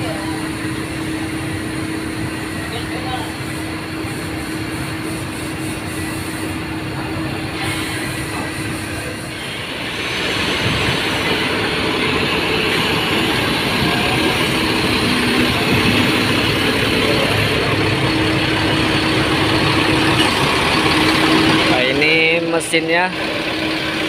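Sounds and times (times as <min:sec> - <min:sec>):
bus diesel engine idling: 0:00.0 - 0:24.0.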